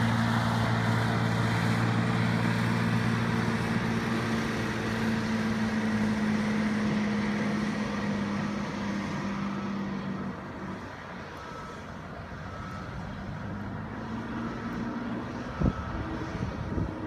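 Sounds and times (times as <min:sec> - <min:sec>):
plow engine running: 0:00.0 - 0:17.0.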